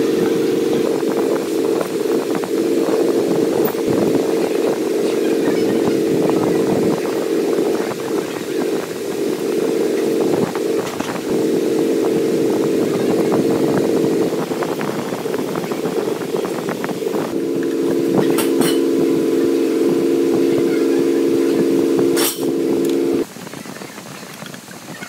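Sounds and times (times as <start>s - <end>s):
electric motor humming: 0.0s - 23.3s.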